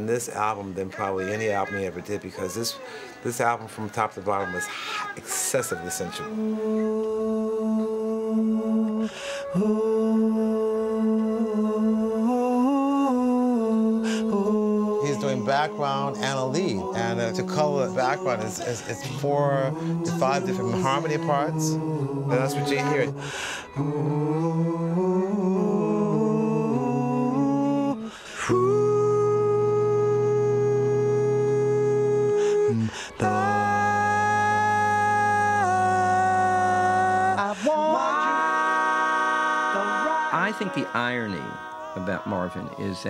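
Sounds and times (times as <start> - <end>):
male a cappella vocal harmonies: 0.0 - 43.0
man singing long wordless notes: 4.2 - 43.0.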